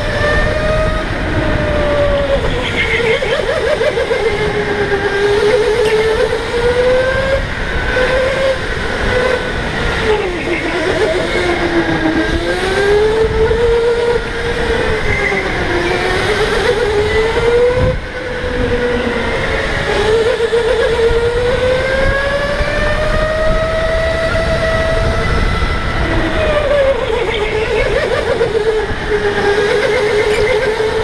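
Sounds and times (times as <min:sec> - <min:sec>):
electric go-kart motor whining: 0:00.0 - 0:31.0.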